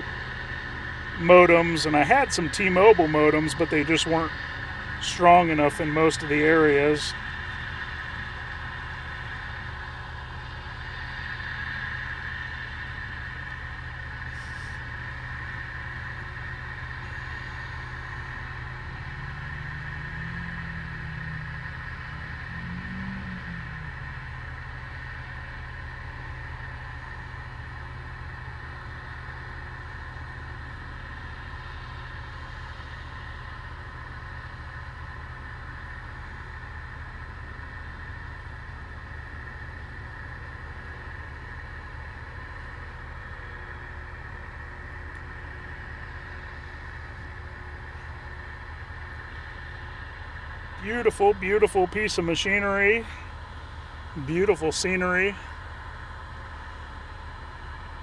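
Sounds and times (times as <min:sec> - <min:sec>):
high whine: 0:00.0 - 0:31.1, 0:33.6 - 0:55.8
engine humming: 0:00.0 - 0:58.0.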